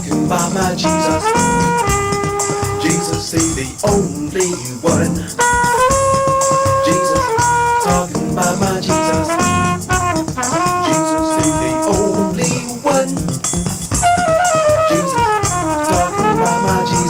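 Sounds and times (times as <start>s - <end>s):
trumpet melody: 0.0s - 13.3s, 13.9s - 17.0s
steady drum beat: 0.0s - 17.0s.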